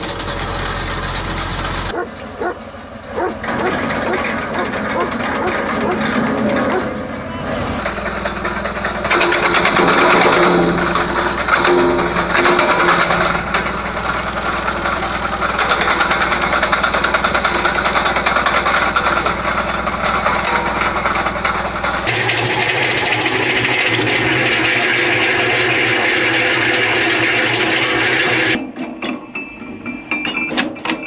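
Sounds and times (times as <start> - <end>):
wood chipper running: 0.0 - 28.7.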